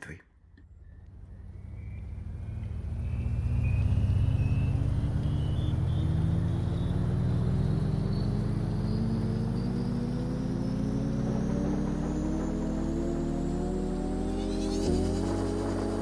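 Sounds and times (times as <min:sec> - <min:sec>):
thin high whine: 0:00.8 - 0:16.0
vehicle accelerating: 0:00.8 - 0:16.0.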